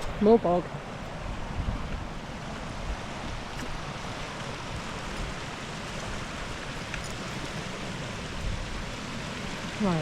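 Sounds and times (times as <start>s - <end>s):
wind buffeting microphone: 0.0s - 9.2s
rain: 0.0s - 10.0s
wind: 0.0s - 10.0s.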